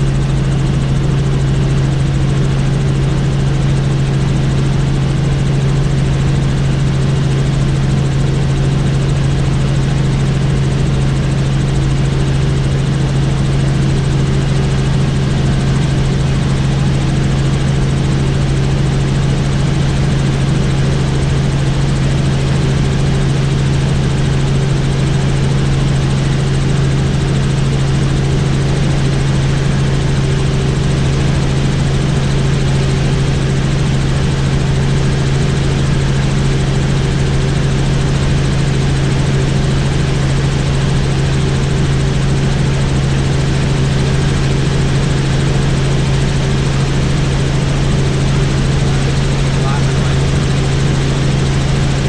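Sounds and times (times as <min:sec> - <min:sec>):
helicopter rotor and turbine drone: 0:00.0 - 0:52.0.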